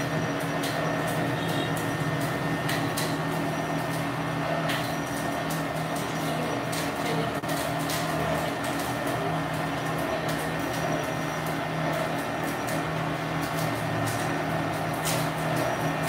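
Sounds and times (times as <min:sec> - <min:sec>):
dough machine motor hum: 0:00.0 - 0:16.0.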